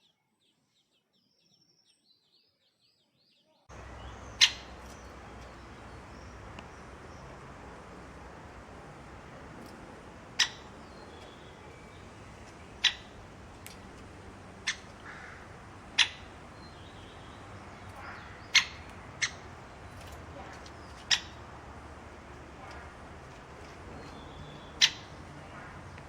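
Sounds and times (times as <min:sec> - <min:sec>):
bird giving sharp calls: 0:03.7 - 0:26.0
steady background hiss: 0:03.7 - 0:26.0.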